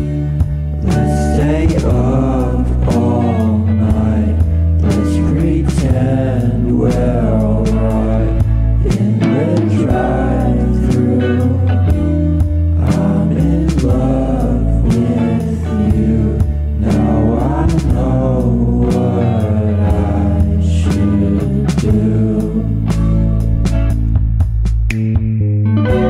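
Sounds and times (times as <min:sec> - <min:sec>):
song with sung vocal and beat: 0:00.0 - 0:25.1.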